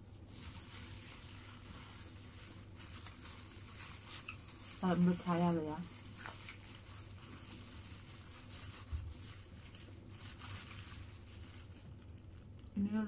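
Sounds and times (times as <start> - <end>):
plastic glove and paper rustling: 0.0 - 13.0.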